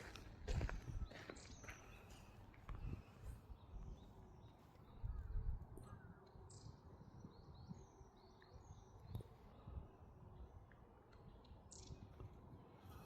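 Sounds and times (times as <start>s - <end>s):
songbird chirps: 0.0s - 12.2s.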